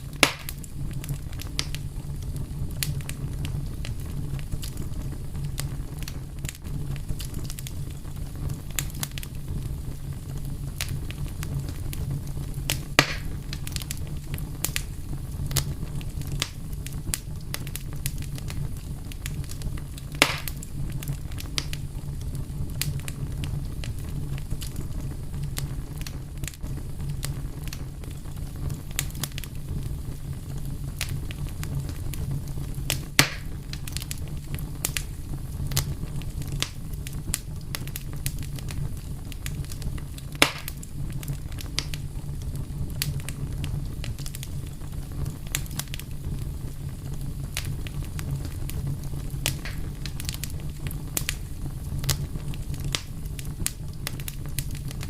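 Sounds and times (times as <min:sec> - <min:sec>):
loud fire pops: 0:00.0 - 0:55.0
low rumble of flames: 0:00.0 - 0:55.0
wood fire crackling: 0:00.0 - 0:55.0.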